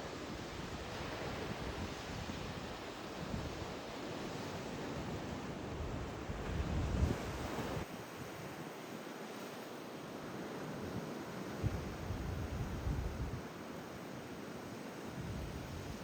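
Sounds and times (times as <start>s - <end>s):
sea waves washing on shore: 0.0s - 16.0s.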